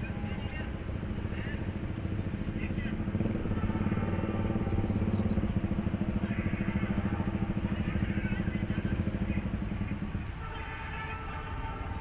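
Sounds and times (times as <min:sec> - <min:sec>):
engine running with low throb: 0:00.0 - 0:12.0.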